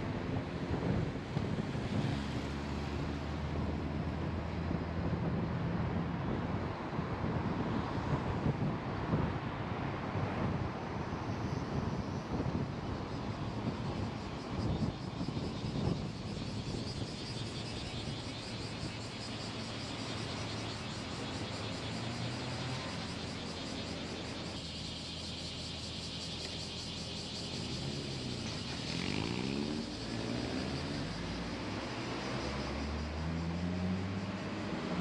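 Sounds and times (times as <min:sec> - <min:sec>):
tyre and road noise: 0:00.0 - 0:35.0.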